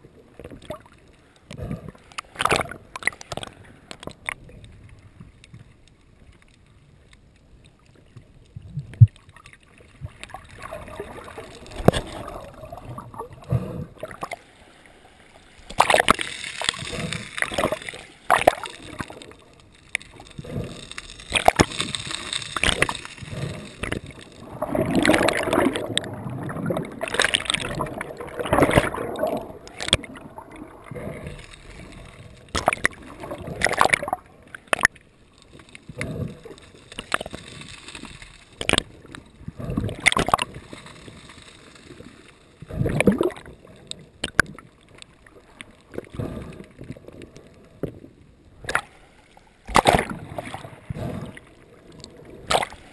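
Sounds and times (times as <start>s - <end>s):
sea water splashing: 0.0s - 6.6s, 7.8s - 52.9s.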